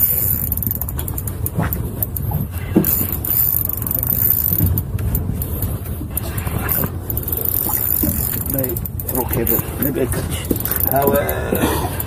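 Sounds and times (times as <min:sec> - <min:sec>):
fishing reel clicks: 0:00.0 - 0:12.0
small boat engine rumble: 0:00.0 - 0:12.0.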